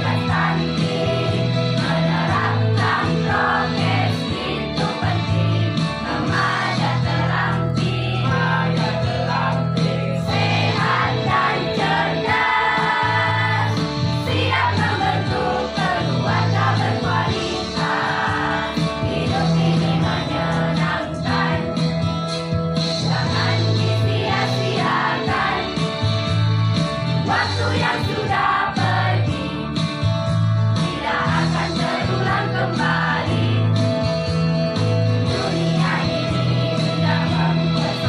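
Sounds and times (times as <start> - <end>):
choir singing: 0.0 - 21.8, 23.0 - 25.8, 27.3 - 29.7, 30.9 - 33.7, 35.3 - 38.0
steady bass notes: 0.0 - 38.0.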